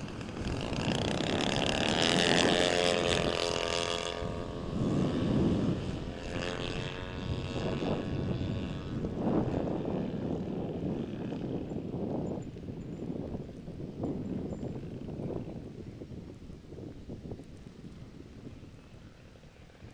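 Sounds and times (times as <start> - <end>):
model airplane engine buzzing: 0.0 - 19.9.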